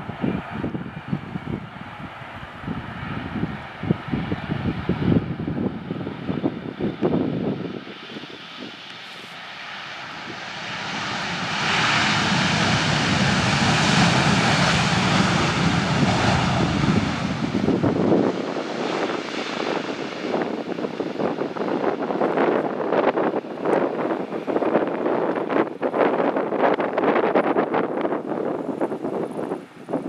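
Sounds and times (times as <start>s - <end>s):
jet airliner flying past: 0.0s - 30.0s
wind buffeting microphone: 0.0s - 30.0s.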